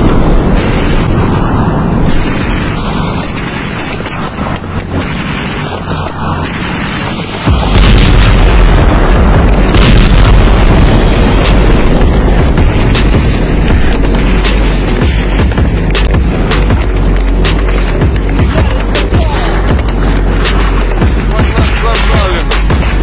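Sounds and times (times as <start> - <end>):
tank gun firing: 0.0 - 23.0
tank moving along road: 0.0 - 23.0.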